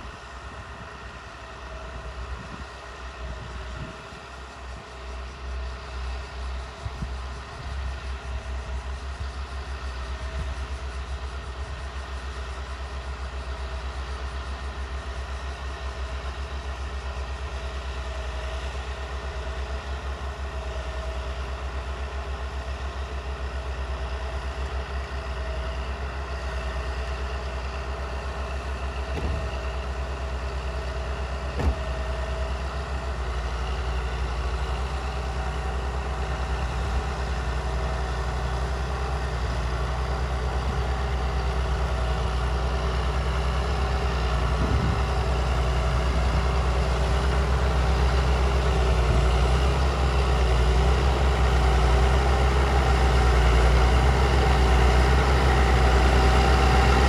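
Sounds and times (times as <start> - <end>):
tractors running under load: 0.0 - 57.0.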